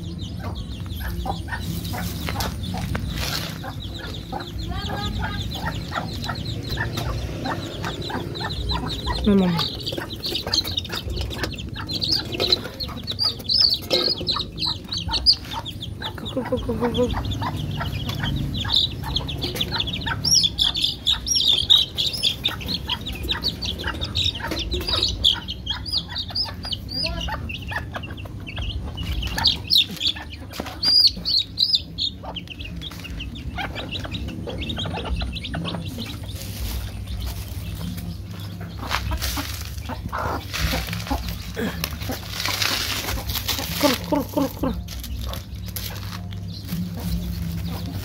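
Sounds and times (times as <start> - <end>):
chicks peeping: 0.0 - 48.0
clucking: 0.0 - 48.0.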